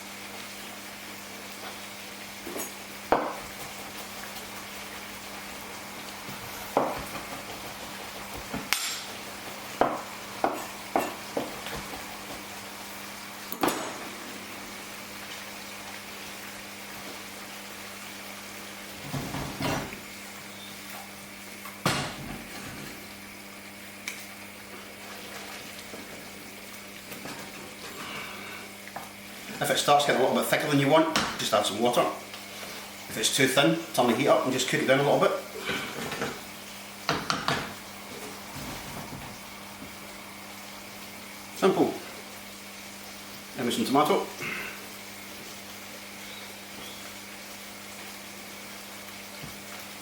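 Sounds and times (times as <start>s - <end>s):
sauce sizzling in a pan: 0.0s - 50.0s.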